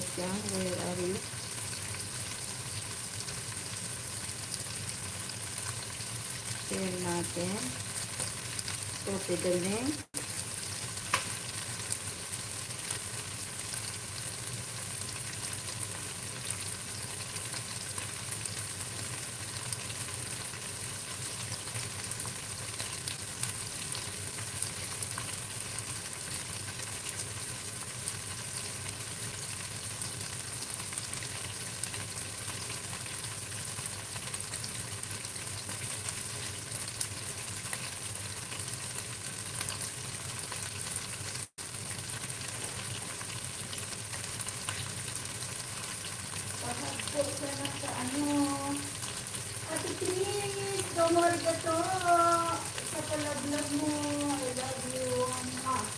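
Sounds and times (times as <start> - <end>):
chicken frying in hot oil: 0.0 - 55.9.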